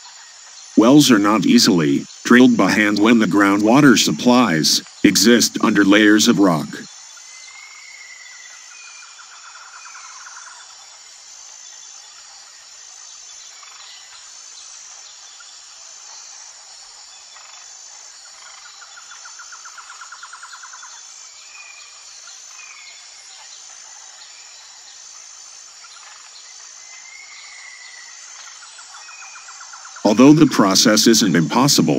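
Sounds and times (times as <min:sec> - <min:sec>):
rapid insect trills: 0:00.0 - 0:31.6
crickets chirping: 0:00.0 - 0:31.9.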